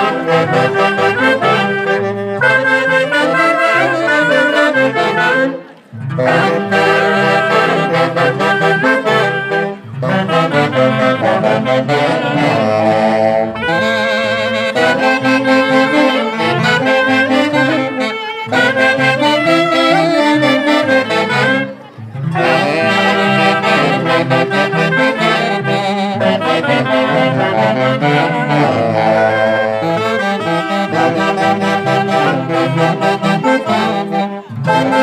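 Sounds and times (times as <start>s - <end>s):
saxophones with wide vibrato: 0.0s - 35.0s.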